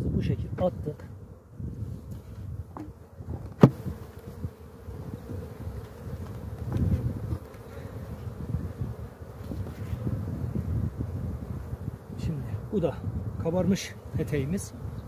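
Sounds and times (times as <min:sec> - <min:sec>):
honeybees buzzing: 0:00.4 - 0:15.0.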